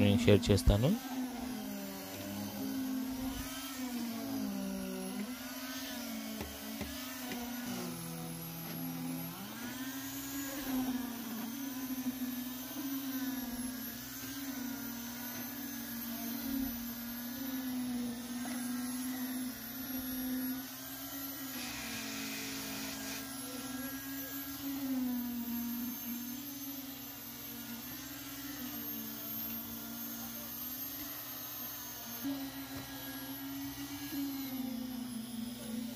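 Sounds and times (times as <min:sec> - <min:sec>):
concrete vibrator motor whine: 0:00.0 - 0:35.9.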